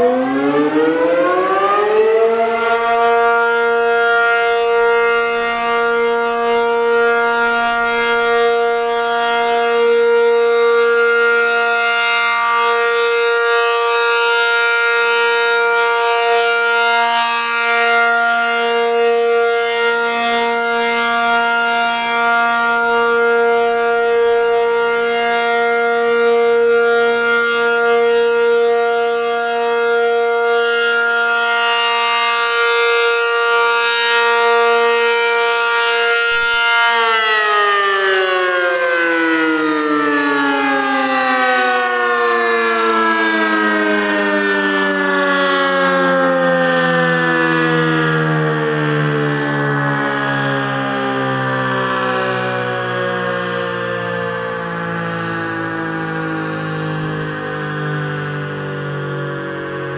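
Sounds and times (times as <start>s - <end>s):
rotating warning siren: 0.0s - 59.9s.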